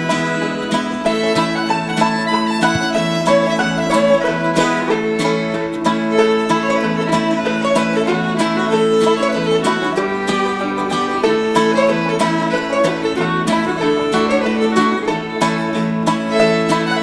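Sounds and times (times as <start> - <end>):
fiddle: 0.0 - 17.0
plucked banjo: 0.0 - 17.0
upbeat bluegrass music: 0.0 - 17.0.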